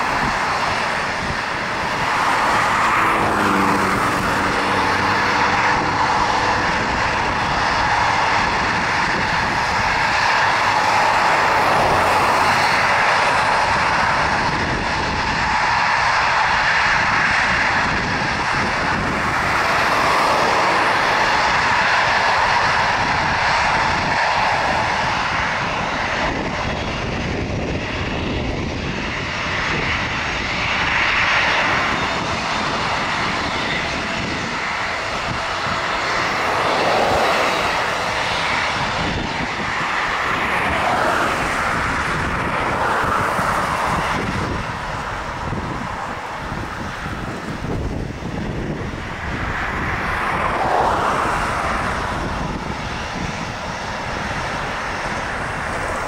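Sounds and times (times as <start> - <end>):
jet engines whining at taxi: 0.0 - 56.0.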